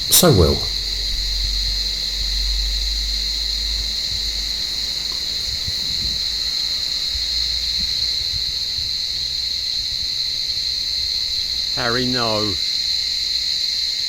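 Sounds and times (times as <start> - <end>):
cicadas chorus: 0.0 - 14.0.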